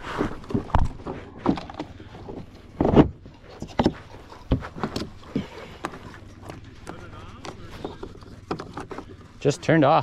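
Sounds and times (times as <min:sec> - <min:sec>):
plastic panels clunking: 0:00.4 - 0:09.4.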